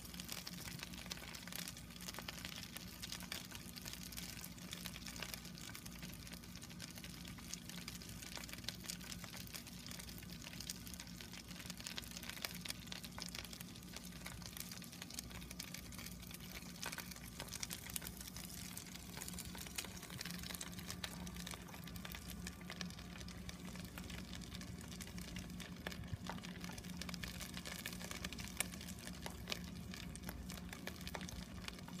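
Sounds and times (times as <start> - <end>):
chicken sizzling in hot oil: 0.0 - 32.0
low steady hum: 0.0 - 32.0.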